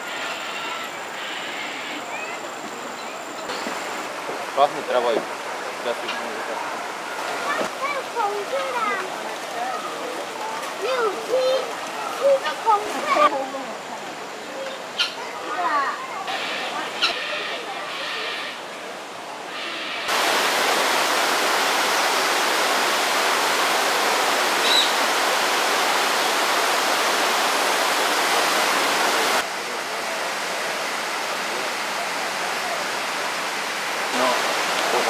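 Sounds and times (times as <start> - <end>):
rushing falling water: 0.0 - 35.0.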